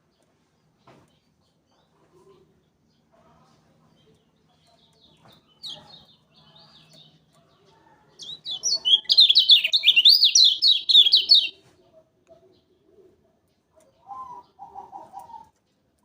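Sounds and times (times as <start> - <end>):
songbird singing: 0.0 - 11.6, 13.4 - 16.0.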